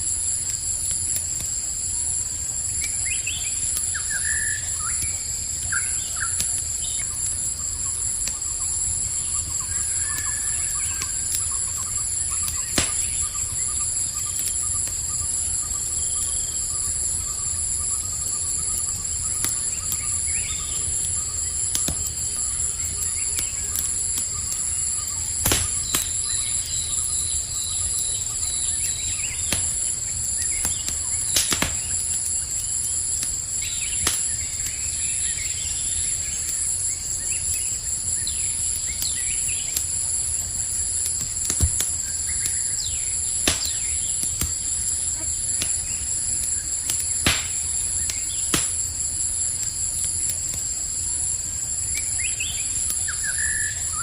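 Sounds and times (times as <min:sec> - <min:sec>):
campfire crackling: 0:00.0 - 0:54.0
crickets trilling: 0:00.0 - 0:54.0.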